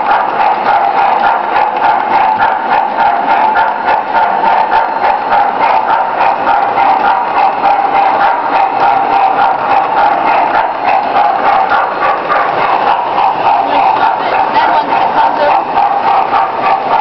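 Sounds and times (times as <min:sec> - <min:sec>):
constant hum: 0:00.0 - 0:17.0
model train wheels clattering: 0:00.0 - 0:17.0.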